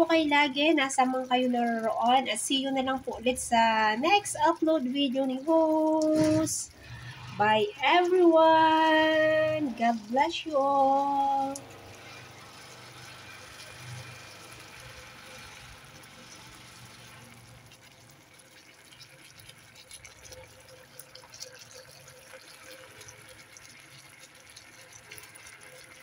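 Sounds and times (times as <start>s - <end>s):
sauce bubbling in a wok: 0.0s - 26.0s.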